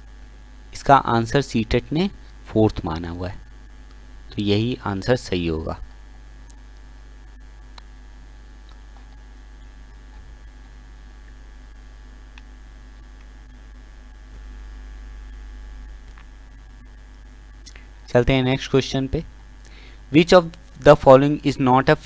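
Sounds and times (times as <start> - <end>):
low electrical mains hum: 0.0 - 22.0.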